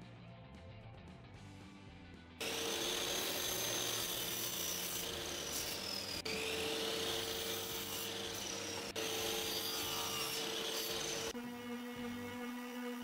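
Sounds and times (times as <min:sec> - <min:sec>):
miter saw cutting wood: 0:02.4 - 0:13.0.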